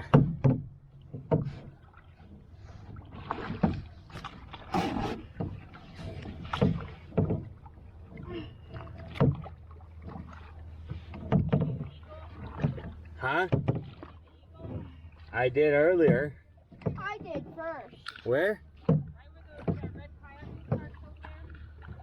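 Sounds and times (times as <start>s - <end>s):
paddles splashing in water: 0.0s - 22.0s.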